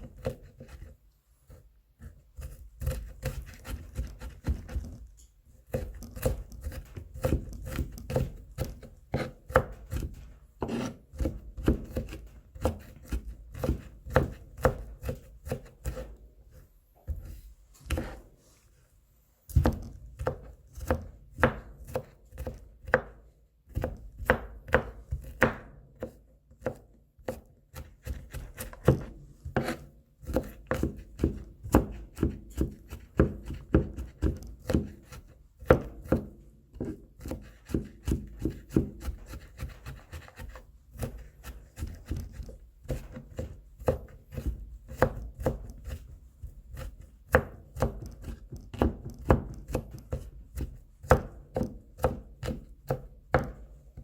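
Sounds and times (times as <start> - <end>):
knife chopping on cutting board: 0.0 - 0.9, 1.5 - 5.0, 5.7 - 16.2, 17.1 - 18.3, 19.5 - 54.0.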